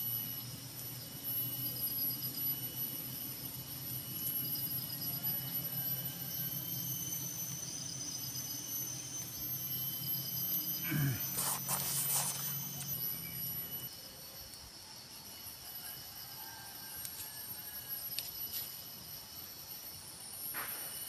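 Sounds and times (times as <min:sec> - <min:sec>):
insect pulsing chirp: 0:00.0 - 0:21.0
insects whining: 0:00.0 - 0:21.0.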